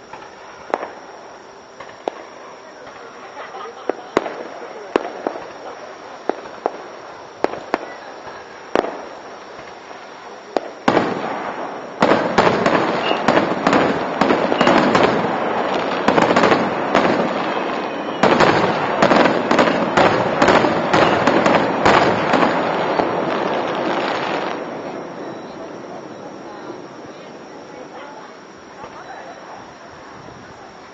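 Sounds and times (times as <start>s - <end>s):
fireworks bangs: 0.0s - 1.2s, 1.8s - 30.7s.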